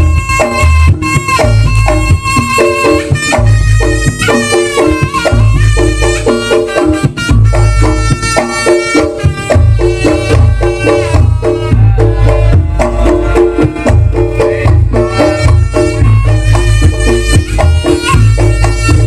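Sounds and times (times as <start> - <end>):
drums and gong-chime percussion: 0.0 - 19.0
heavy bass: 0.0 - 19.0
reedy wind melody: 0.0 - 19.0.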